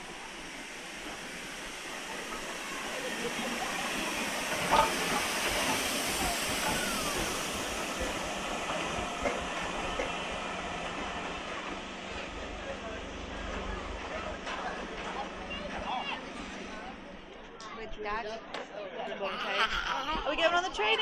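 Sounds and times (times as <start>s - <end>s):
steam locomotive hissing and running: 0.0s - 17.6s.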